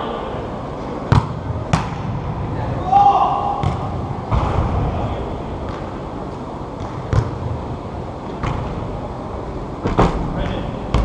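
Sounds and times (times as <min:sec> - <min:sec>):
murmur of hall: 0:00.0 - 0:11.0.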